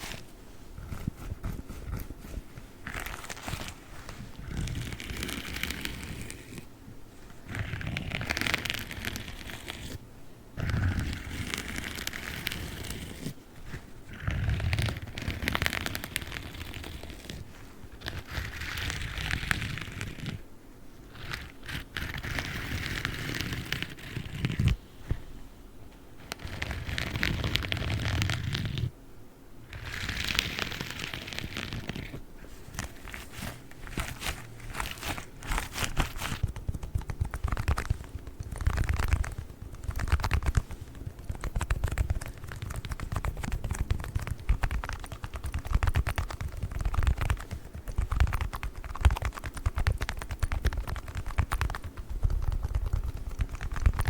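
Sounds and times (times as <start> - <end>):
gloves crinkling and rustling: 0.0 - 10.0, 10.6 - 29.0, 29.6 - 54.0.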